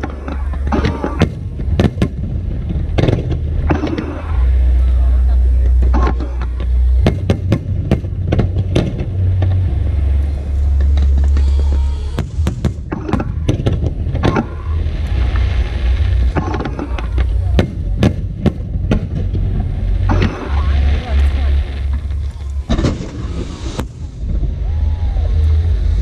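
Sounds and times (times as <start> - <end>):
crackling hiss: 0.0 - 26.0
fireworks bangs: 0.0 - 26.0.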